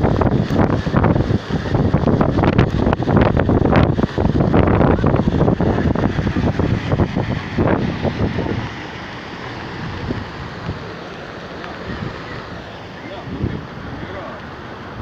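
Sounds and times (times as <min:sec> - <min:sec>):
rain: 0:00.0 - 0:15.0
wind buffeting microphone: 0:00.0 - 0:15.0.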